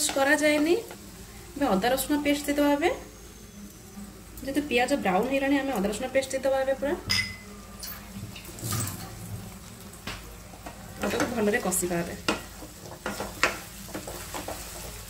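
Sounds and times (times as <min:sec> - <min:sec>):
onions sizzling in oil: 0:00.0 - 0:07.6, 0:08.2 - 0:15.0.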